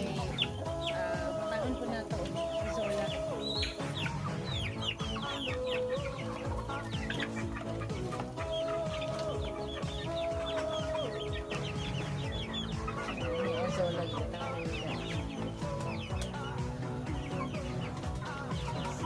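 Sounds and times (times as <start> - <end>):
background music slow melody: 0.0 - 19.0
chickens clucking: 0.0 - 19.0.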